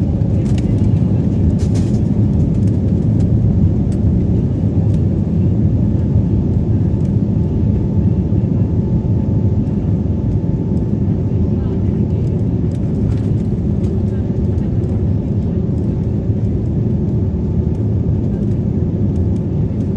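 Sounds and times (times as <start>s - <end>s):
jet engines rumbling in cabin: 0.0s - 19.9s.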